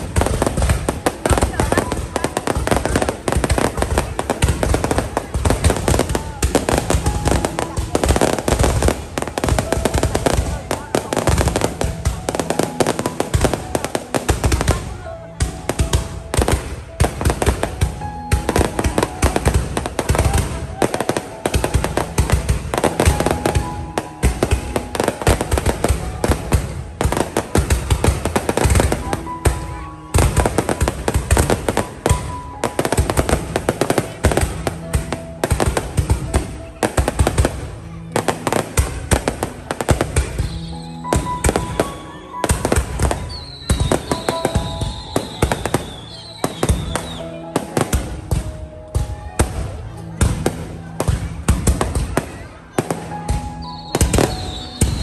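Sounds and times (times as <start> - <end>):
fireworks bangs and crackles: 0.0 - 55.0
music playing: 0.0 - 55.0.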